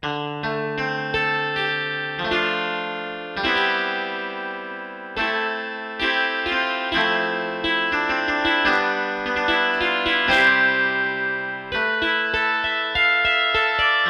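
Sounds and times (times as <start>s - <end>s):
clean electric guitar chords: 0.0s - 14.0s.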